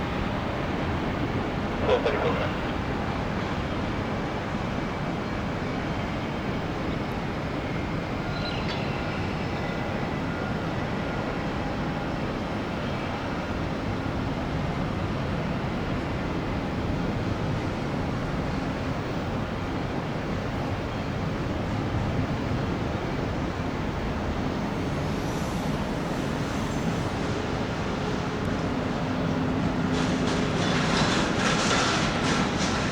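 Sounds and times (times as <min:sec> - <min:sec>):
jet engines rushing on landing: 0:00.0 - 0:10.7, 0:16.5 - 0:32.9.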